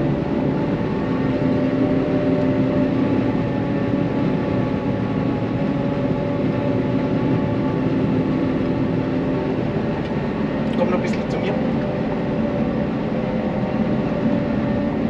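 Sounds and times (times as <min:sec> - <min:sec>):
constant hum: 0:00.0 - 0:15.0
harvester engine and cutterhead drone: 0:00.0 - 0:15.0.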